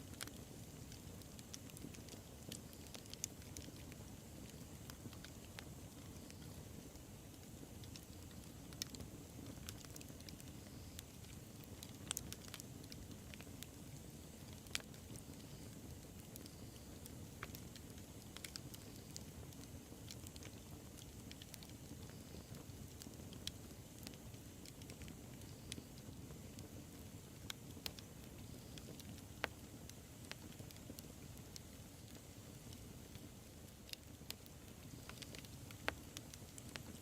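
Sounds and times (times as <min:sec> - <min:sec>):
fire crackling and popping: 0:00.0 - 0:37.0
low rumble of bonfire flames: 0:00.0 - 0:37.0.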